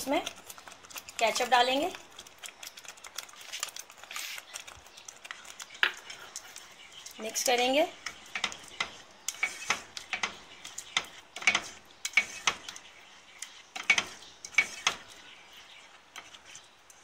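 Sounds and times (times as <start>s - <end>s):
spoon stirring thick sauce in pot: 0.0s - 17.0s.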